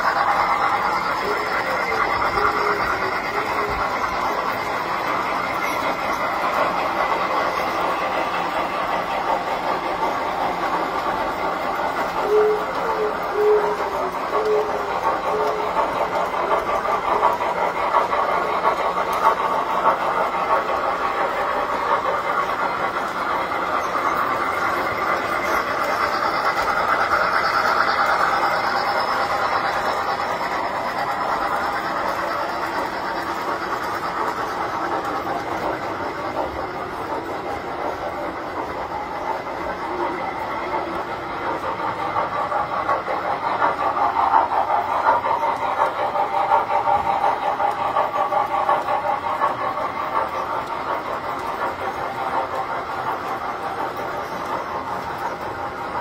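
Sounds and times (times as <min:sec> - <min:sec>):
model train wheels rattling on rails: 0:00.0 - 0:56.0.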